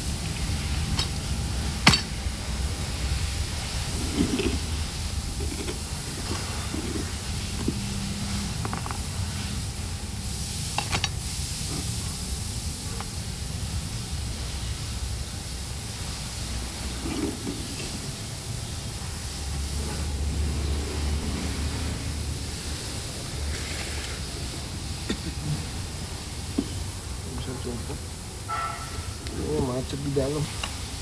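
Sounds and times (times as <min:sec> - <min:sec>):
low hum: 0:00.0 - 0:29.3
steady hiss: 0:00.0 - 0:31.0.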